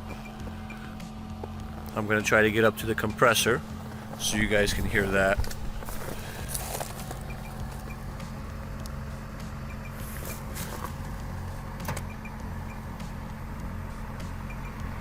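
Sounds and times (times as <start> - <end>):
heat pump compressor and fan hum: 0.0 - 15.0.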